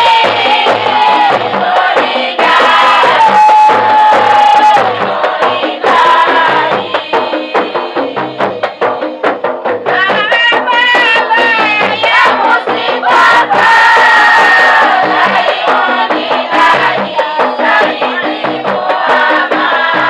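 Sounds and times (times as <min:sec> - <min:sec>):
voices singing a devotional chant: 0:00.0 - 0:20.0.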